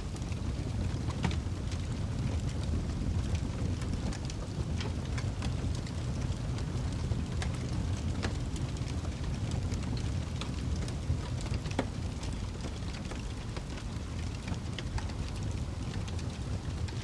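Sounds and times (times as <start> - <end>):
fire crackling and popping: 0.0 - 17.0
flames rumbling in fireplace: 0.0 - 17.0.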